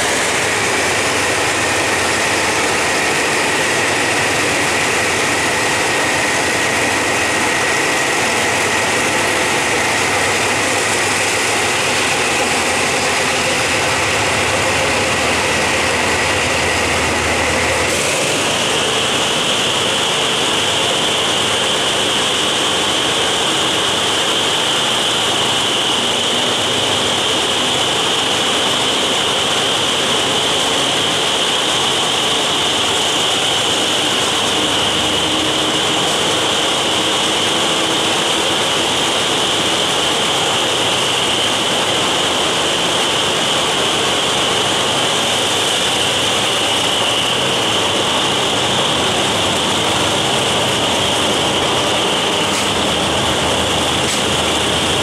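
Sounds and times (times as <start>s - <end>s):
diesel train running: 0.0s - 55.0s
high engine whine: 0.0s - 55.0s.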